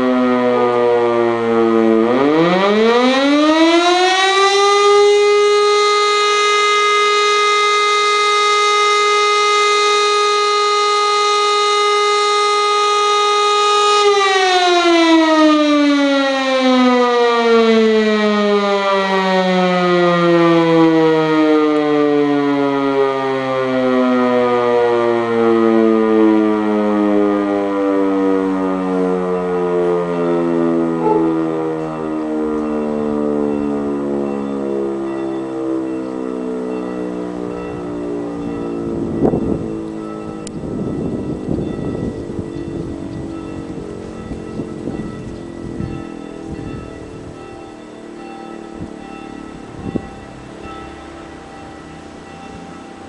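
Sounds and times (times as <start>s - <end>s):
siren tone falling in pitch: 0.0s - 47.2s.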